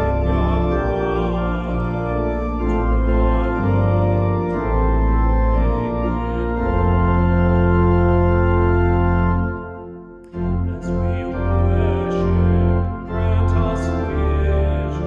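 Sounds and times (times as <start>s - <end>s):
organ playing slow chords: 0.0s - 15.0s.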